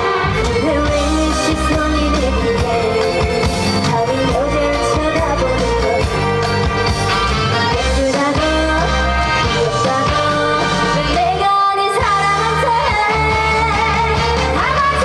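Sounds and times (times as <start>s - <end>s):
woman singing: 0.0s - 6.2s, 7.7s - 15.0s
instrumental accompaniment: 0.0s - 15.0s.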